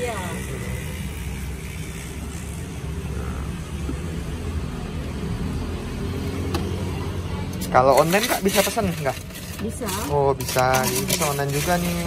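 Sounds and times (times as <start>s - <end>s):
low rumble of engines: 0.0s - 12.0s.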